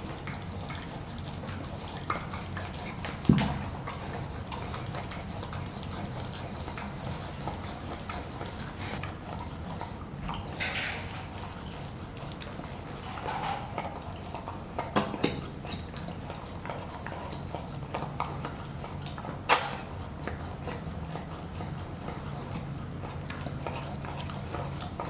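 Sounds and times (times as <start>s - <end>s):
puppy licking and chewing: 0.0s - 25.0s.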